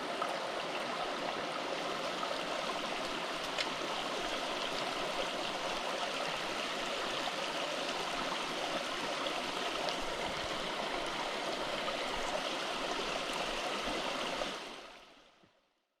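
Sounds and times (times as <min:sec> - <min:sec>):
mountain stream running: 0:00.0 - 0:15.2.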